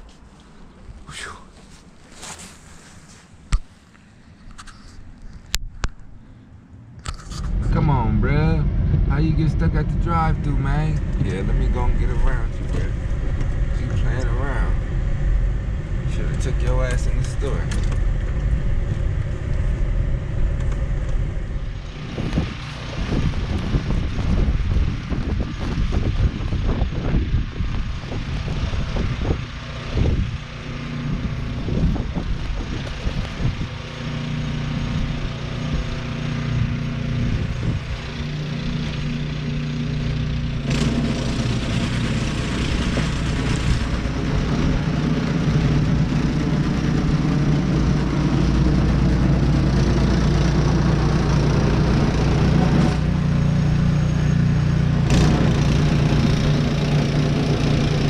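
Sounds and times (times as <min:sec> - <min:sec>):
vehicle engine humming: 0:00.0 - 0:58.0.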